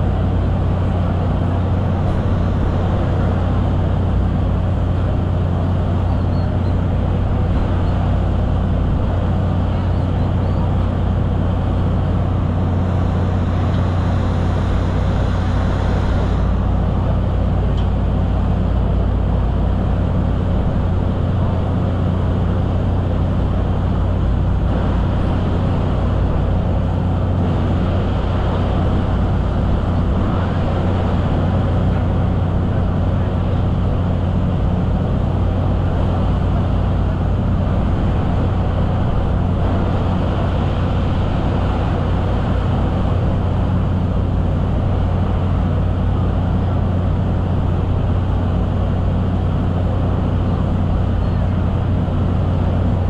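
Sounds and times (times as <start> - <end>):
ferry engines droning: 0.0 - 53.0
rushing noise: 0.0 - 53.0.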